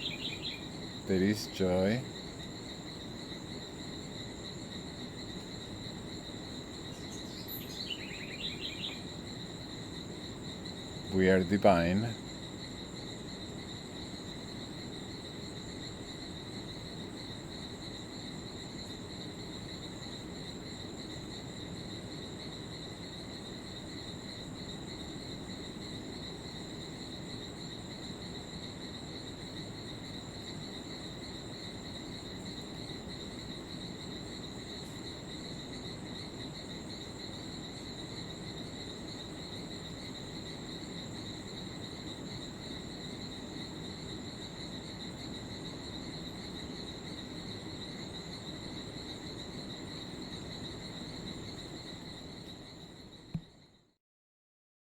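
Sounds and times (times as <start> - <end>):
low background hiss: 0.0 - 53.8
insects trilling: 0.0 - 53.9.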